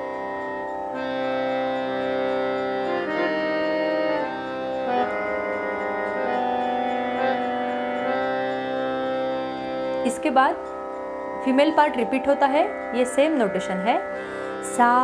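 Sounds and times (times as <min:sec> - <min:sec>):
electronic keyboard organ notes: 0:00.0 - 0:15.0
steady drone: 0:00.0 - 0:15.0.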